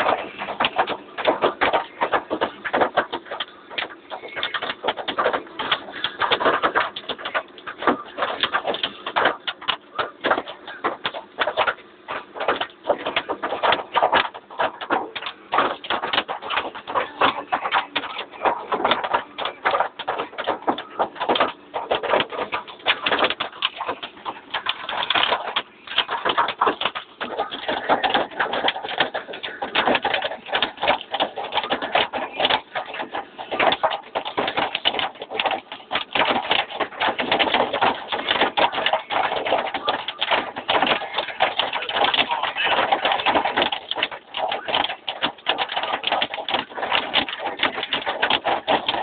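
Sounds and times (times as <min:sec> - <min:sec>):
hailstones clattering: 0:00.0 - 0:49.0.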